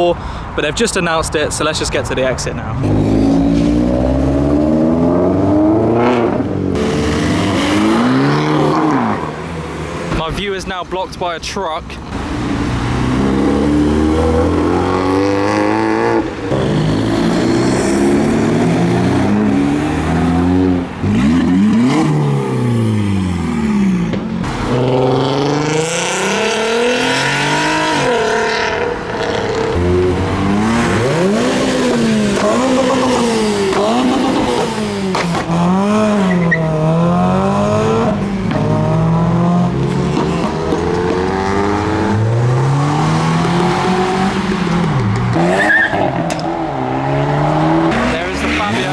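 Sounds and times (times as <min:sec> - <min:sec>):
cars sweeping past: 0:00.0 - 0:10.4, 0:12.1 - 0:48.9
car engines revving and accelerating: 0:00.0 - 0:48.9.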